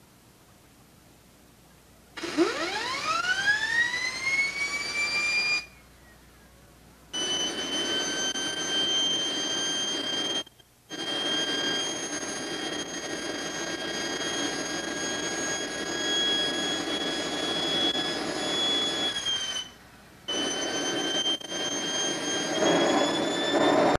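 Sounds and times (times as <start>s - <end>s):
jet turbine high-pitched whine: 2.2s - 5.8s, 7.1s - 23.9s.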